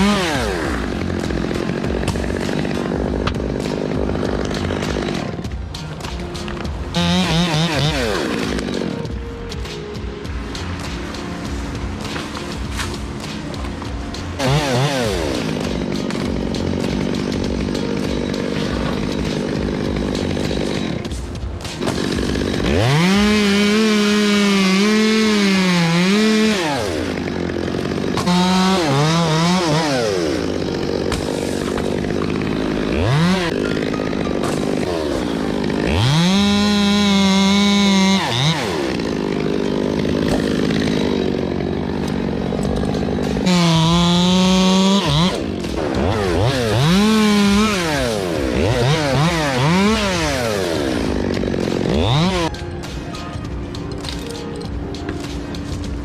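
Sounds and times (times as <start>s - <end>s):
chainsaw revving while cutting: 0.0s - 5.6s, 6.5s - 9.2s, 10.8s - 52.5s.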